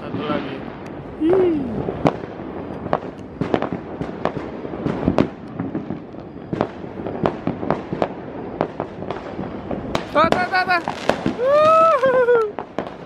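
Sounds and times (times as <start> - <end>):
distant fireworks bursts: 0.0 - 13.0
fireworks bangs and pops: 0.0 - 13.0.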